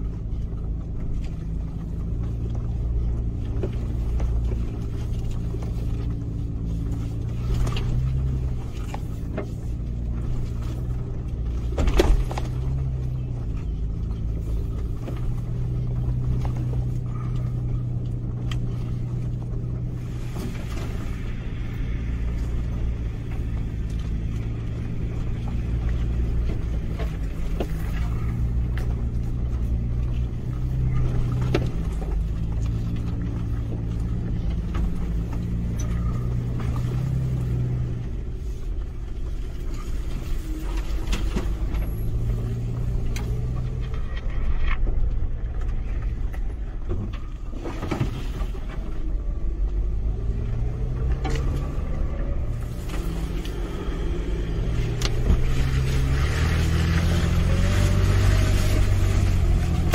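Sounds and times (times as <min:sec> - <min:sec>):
truck engine at low revs: 0:00.0 - 0:59.9.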